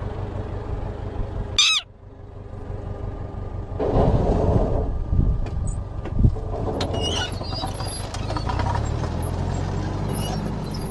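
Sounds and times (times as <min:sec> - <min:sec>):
vehicle engines rumbling: 0:00.0 - 0:10.9.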